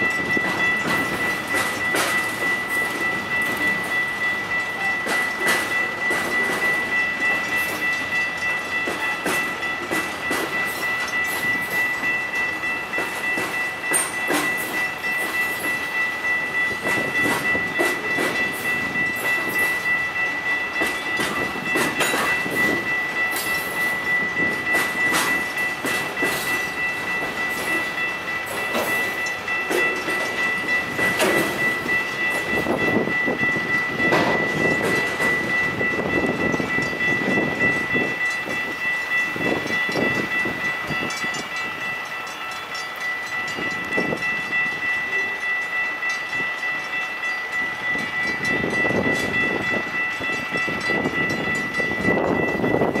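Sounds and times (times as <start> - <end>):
crossing warning bell ringing: 0.0 - 53.0
train wheels clacking on rails: 0.0 - 53.0.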